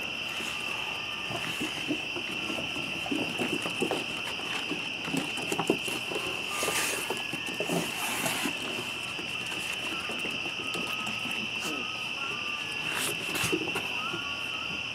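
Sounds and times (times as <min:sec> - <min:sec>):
crickets trilling: 0:00.0 - 0:14.9
puppies scuffing on wooden boards: 0:00.0 - 0:14.9.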